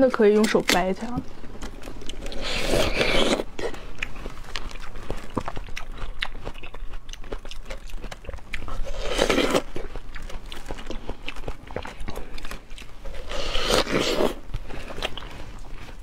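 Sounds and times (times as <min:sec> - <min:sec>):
wet chewing: 0:00.0 - 0:16.0
biting into watermelon: 0:01.8 - 0:16.0.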